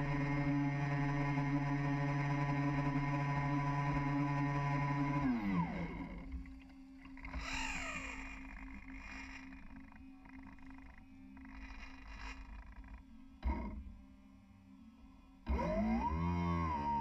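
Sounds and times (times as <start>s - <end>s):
electric boat motor humming: 0.0s - 17.0s.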